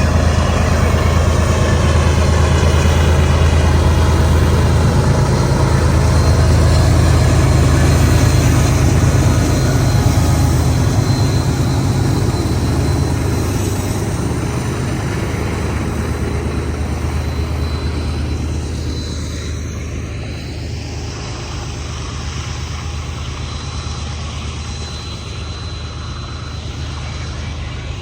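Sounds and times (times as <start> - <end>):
locomotive engine hum: 0.0 - 28.0
train hiss: 0.0 - 28.0.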